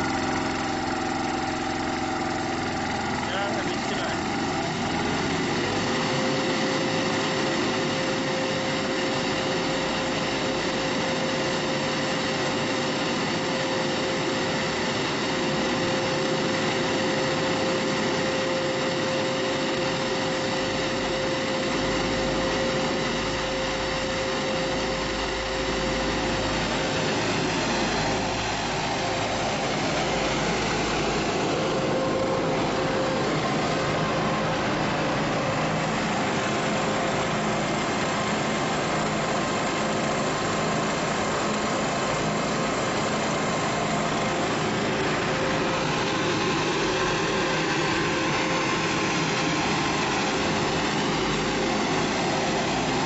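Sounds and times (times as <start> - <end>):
blower fan whining: 0.0 - 53.0
generator engine running: 0.0 - 53.0.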